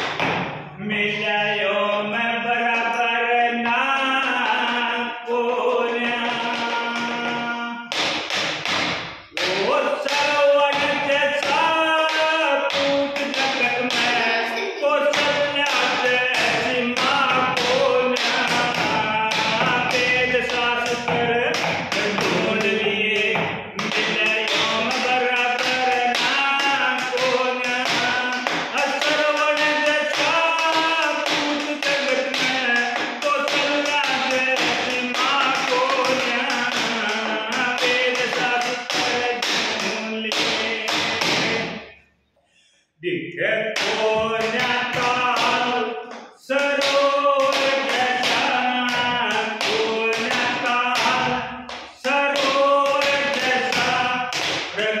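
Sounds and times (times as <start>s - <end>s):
man singing folk song: 0.7s - 7.9s, 9.4s - 41.6s, 43.4s - 55.0s.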